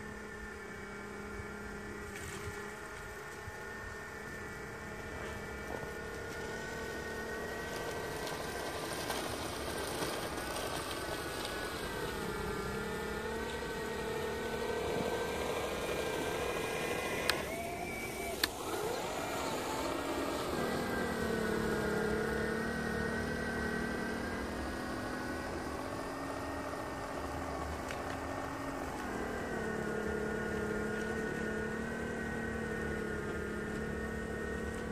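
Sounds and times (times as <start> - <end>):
snow blower motor whine: 0.0 - 34.9.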